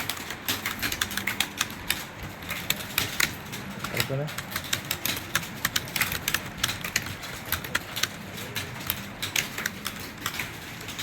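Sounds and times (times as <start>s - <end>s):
fast typing key clicks: 0.0s - 11.0s.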